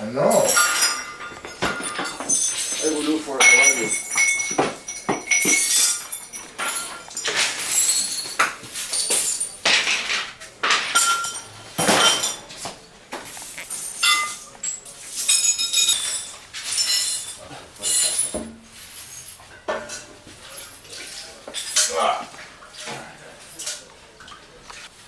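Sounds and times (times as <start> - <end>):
glasses and dishes clinking: 0.0 - 24.5.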